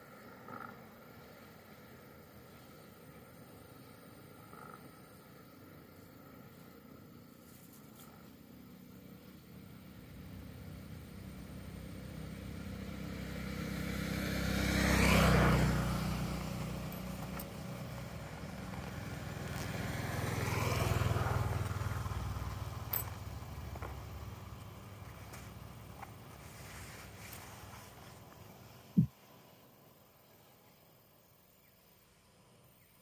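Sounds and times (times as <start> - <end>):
motor vehicles passing: 0.0 - 30.0.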